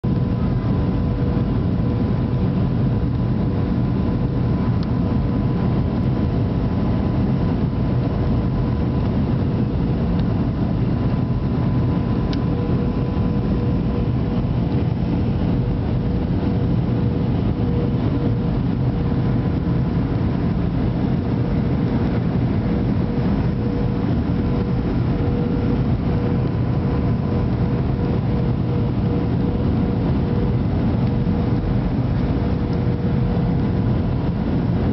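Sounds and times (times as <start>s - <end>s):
airliner cabin engine drone: 0.0s - 34.9s
steady hum tone: 0.0s - 34.9s.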